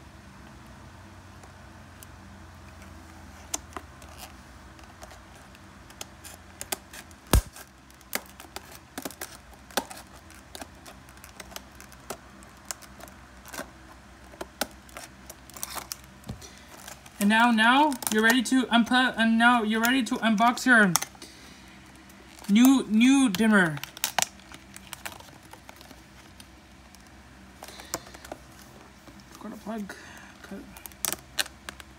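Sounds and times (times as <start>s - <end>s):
plastic package clicking and crackling: 2.8s - 17.2s, 17.8s - 18.6s, 19.8s - 29.5s, 30.4s - 31.9s.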